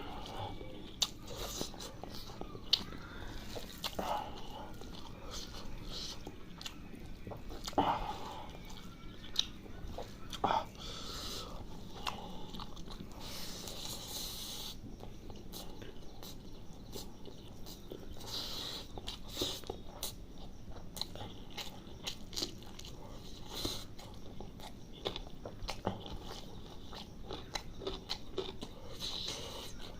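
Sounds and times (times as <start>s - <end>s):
chewing and wet mouth sounds: 0.0s - 29.9s.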